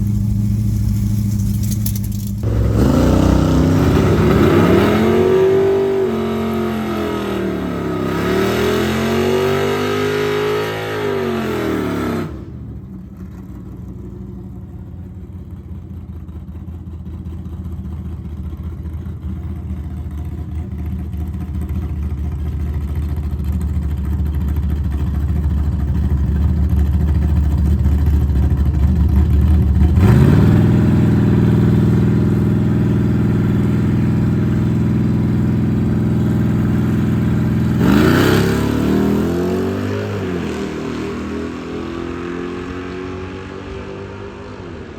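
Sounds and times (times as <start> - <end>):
car engine revving and running: 0.0 - 44.9.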